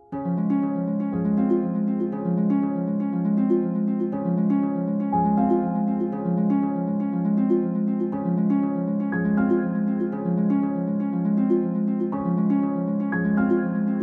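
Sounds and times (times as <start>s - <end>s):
gentle plucked background music: 0.0s - 14.0s.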